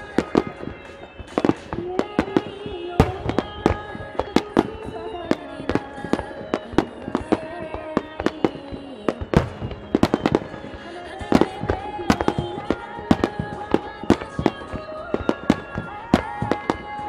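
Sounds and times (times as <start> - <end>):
firework bangs: 0.0 - 17.0
music playing: 0.0 - 17.0.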